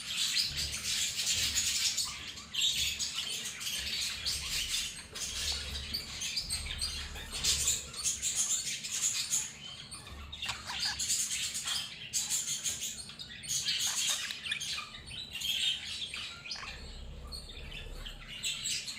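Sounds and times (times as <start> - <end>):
budgerigars chattering and chirping: 0.0 - 18.9.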